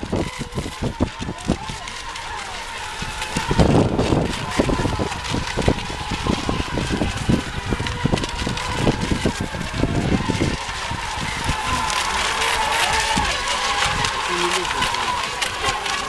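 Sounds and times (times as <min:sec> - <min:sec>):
rc boat motors whining: 0:00.0 - 0:16.0.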